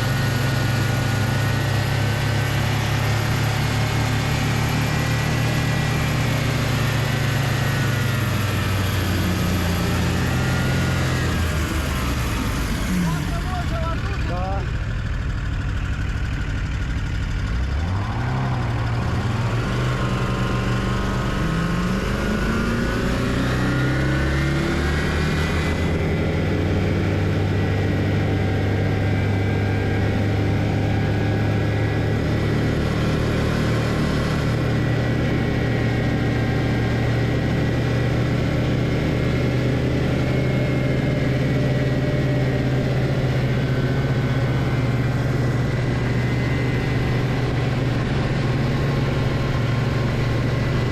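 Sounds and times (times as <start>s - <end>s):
snowmobile engine revving: 0.0s - 14.8s, 16.4s - 50.9s.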